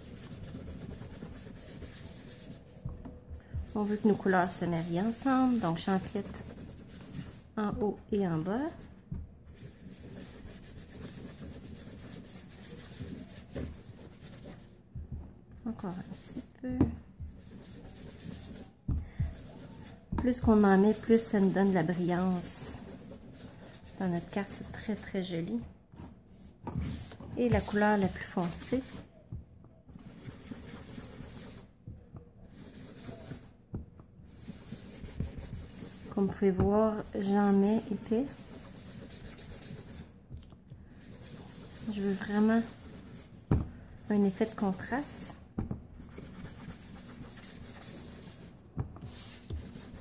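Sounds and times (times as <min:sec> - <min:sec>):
sponge rubbing on cardstock: 0:00.0 - 0:02.9, 0:03.5 - 0:07.5, 0:08.2 - 0:14.8, 0:17.2 - 0:25.2, 0:26.1 - 0:29.2, 0:30.0 - 0:31.7, 0:32.4 - 0:33.6, 0:34.3 - 0:40.2, 0:40.8 - 0:45.4, 0:46.0 - 0:50.0.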